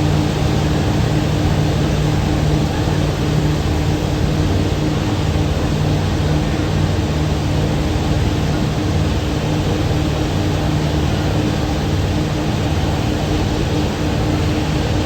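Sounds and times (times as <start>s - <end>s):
boat engines droning: 0.0s - 15.0s.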